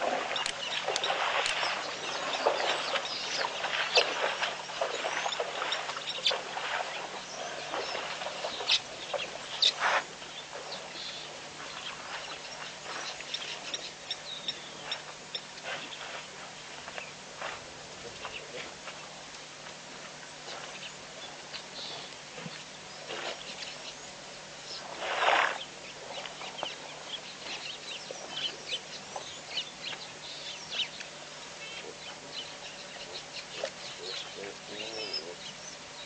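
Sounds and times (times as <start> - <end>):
wild bird calls and clucks: 0.0 - 36.0.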